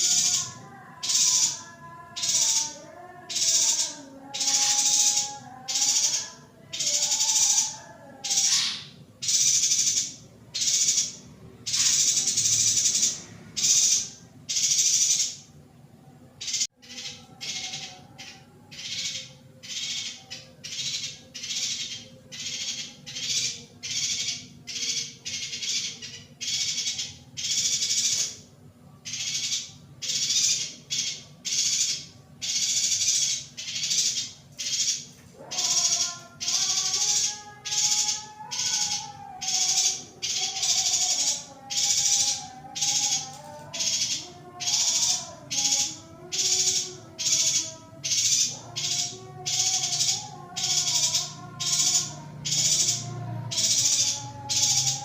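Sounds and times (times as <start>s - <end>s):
bird buzzy chattering calls: 0.0s - 15.5s, 16.4s - 55.0s.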